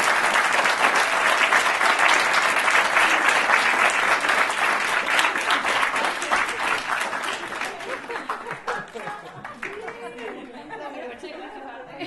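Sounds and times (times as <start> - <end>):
guests applauding: 0.0 - 10.8.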